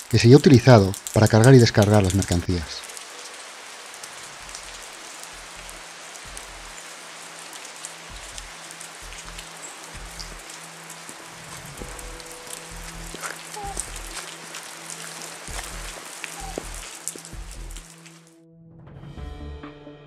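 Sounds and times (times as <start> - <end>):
rain falling: 0.0 - 18.3.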